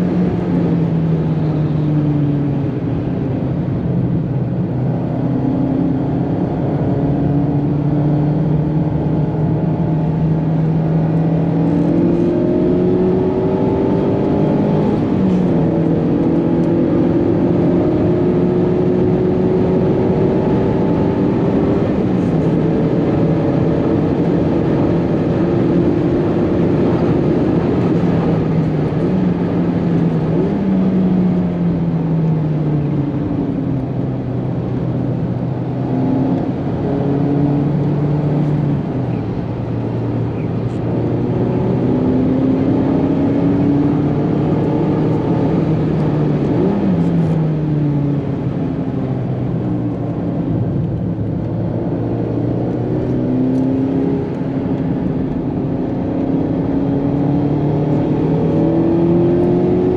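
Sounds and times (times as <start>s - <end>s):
car engine revving from inside: 0.0s - 59.9s
tyre road noise on wet track: 0.0s - 59.9s.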